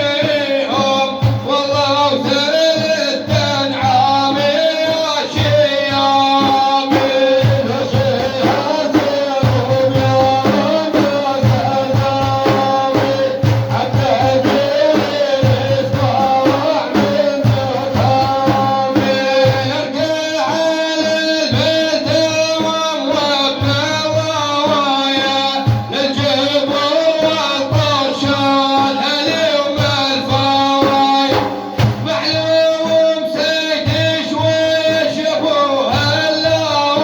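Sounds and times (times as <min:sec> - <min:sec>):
man singing: 0:00.0 - 0:37.0
steady drum beat: 0:00.0 - 0:37.0.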